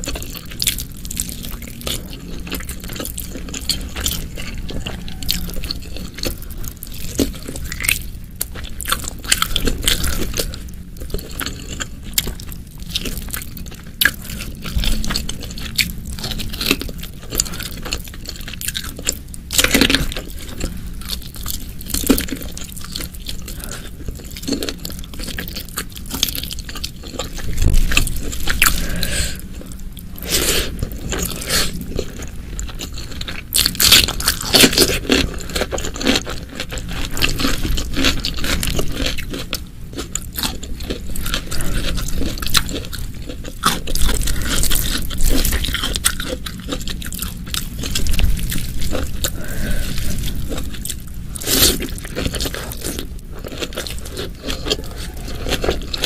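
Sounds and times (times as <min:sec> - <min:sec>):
person crunching and chewing food: 0:00.0 - 0:56.0.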